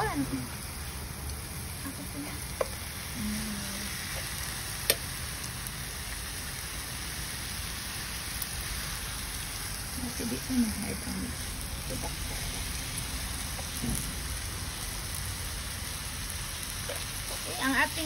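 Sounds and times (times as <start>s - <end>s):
meat sizzling on grill pan: 0.0s - 18.0s.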